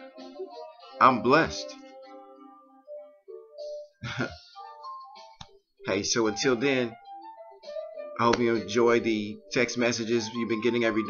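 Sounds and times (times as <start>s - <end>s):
soft guitar-like background music: 0.0s - 11.0s.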